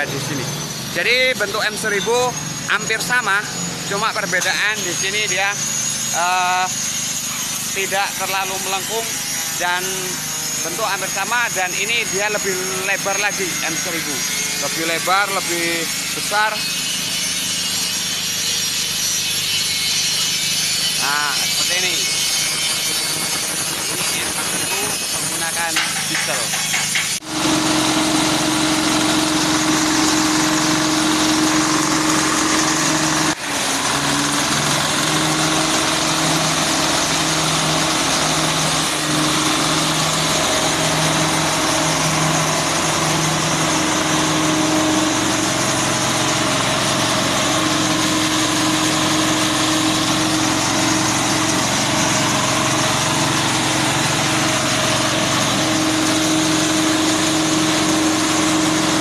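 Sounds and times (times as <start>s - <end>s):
small diesel engine running: 0.0s - 59.0s.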